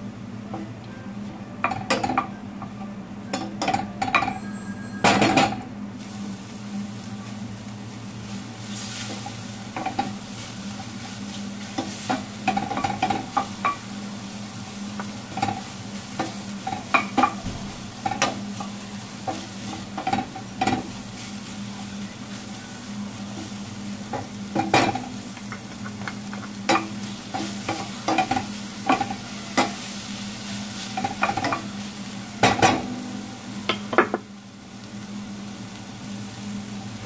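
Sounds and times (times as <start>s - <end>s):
food sizzling: 0.0s - 37.0s.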